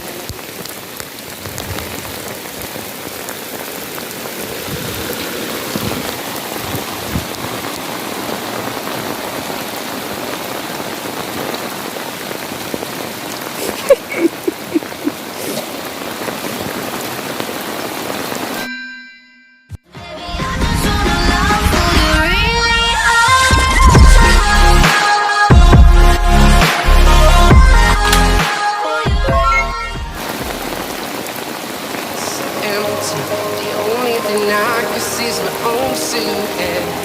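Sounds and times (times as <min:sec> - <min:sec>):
heavy rain falling: 0:00.0 - 0:18.6, 0:20.2 - 0:37.0.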